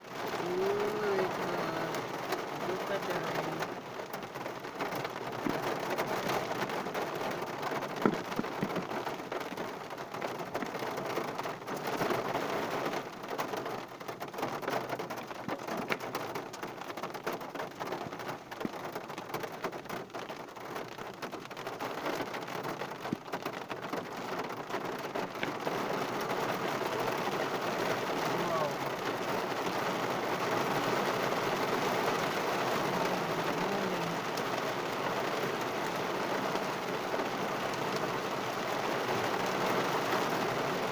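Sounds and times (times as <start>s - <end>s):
heavy rain on car roof: 0.0s - 40.9s.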